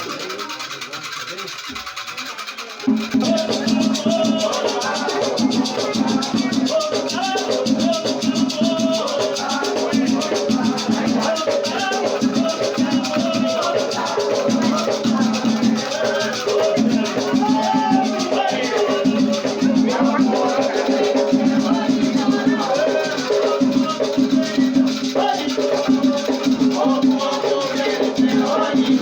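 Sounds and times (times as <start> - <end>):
rattles shaken fast: 0.0 - 29.0
people singing: 2.8 - 29.0.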